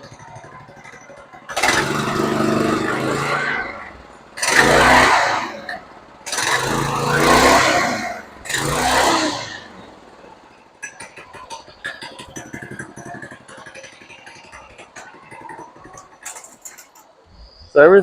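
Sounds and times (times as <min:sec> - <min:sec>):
go-kart engine revving: 0:00.0 - 0:18.0.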